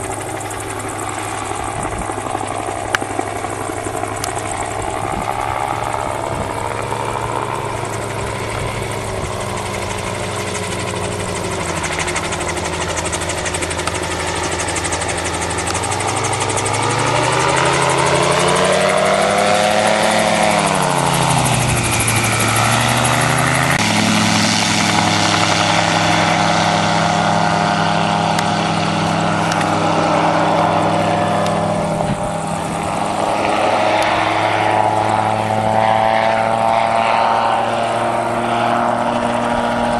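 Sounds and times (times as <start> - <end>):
gyroplane engine and propeller drone: 0.0 - 39.9.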